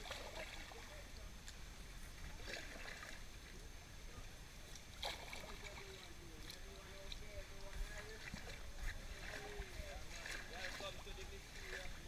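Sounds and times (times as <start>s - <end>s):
river water trickling: 0.0s - 12.0s
soft water splashes: 0.0s - 12.0s.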